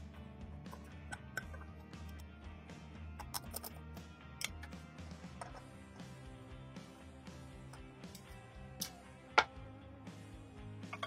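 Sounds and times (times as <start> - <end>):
background music low notes: 0.0 - 11.0.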